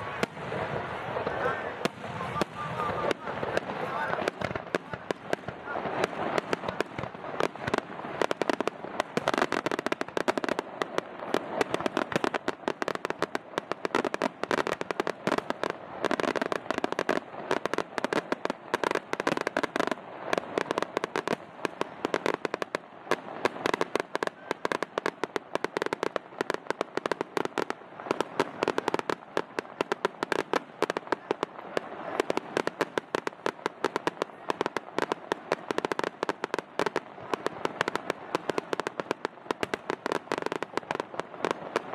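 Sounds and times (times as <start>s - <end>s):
fireworks crackling and popping: 0.0s - 41.9s.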